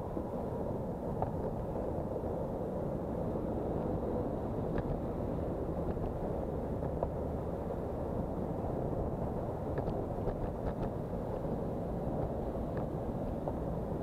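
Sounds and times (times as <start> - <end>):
road traffic rumble: 0.0 - 14.0
wind rushing over microphone: 0.0 - 14.0.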